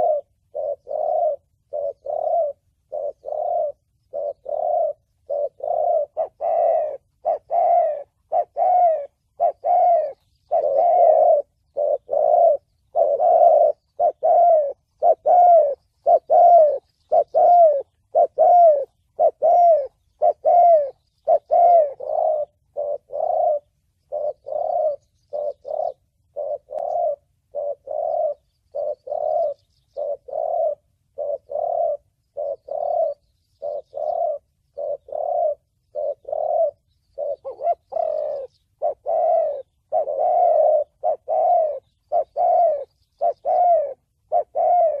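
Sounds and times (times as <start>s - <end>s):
dove cooing: 0.0s - 45.0s.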